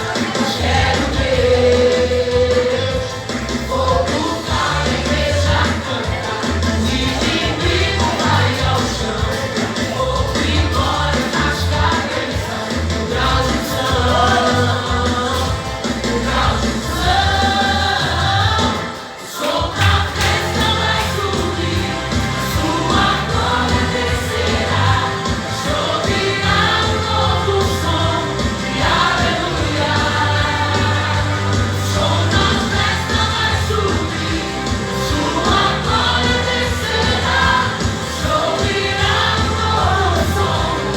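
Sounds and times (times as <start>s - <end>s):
band with steady bass line: 0.0s - 40.9s
several voices singing: 0.0s - 40.9s.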